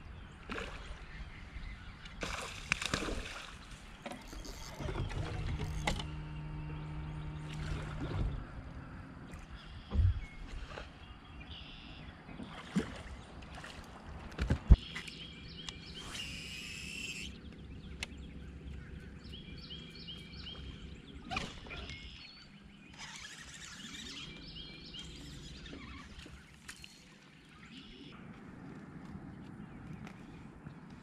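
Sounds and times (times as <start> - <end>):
lake ambience: 0.0 - 31.0
birds calling: 0.1 - 13.4, 14.4 - 28.5.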